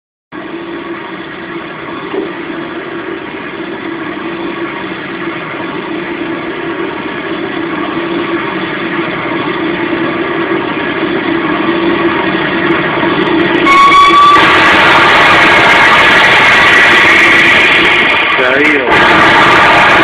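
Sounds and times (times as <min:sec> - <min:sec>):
engine humming: 0:00.4 - 0:20.0.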